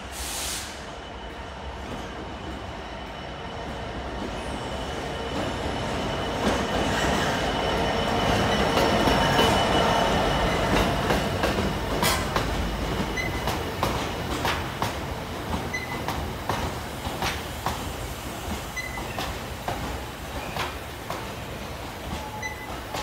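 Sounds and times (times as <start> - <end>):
diesel locomotive engine passing: 0.0 - 23.0.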